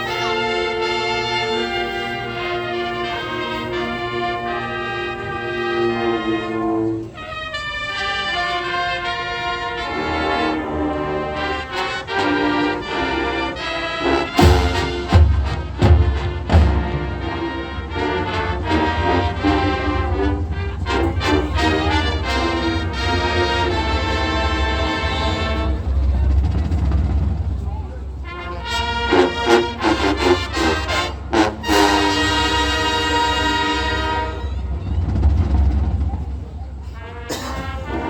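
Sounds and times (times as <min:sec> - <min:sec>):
marching band brass chords: 0:00.0 - 0:38.0.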